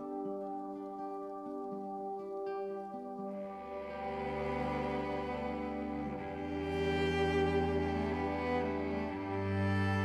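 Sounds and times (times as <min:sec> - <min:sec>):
slow string-like background music: 0:00.0 - 0:10.0.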